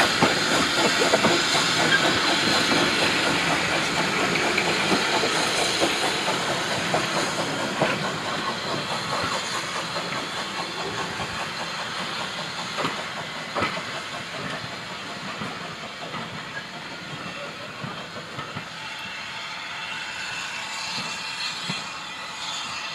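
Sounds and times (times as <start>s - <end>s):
train coaches rolling: 0.0s - 22.9s.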